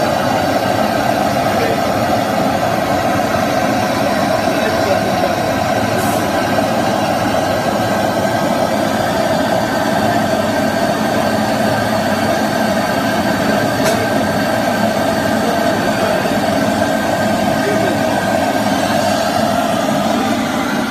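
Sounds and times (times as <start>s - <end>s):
gas burner flame roaring: 0.0s - 20.9s
ventilation running: 0.0s - 20.9s.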